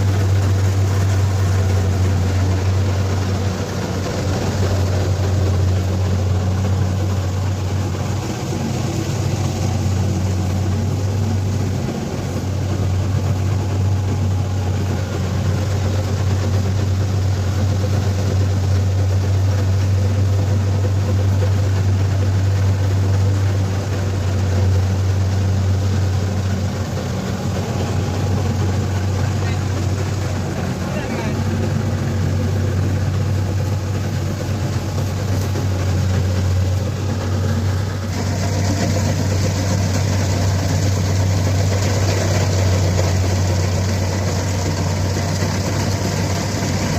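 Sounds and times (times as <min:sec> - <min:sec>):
combine harvester engine drone: 0:00.0 - 0:46.9.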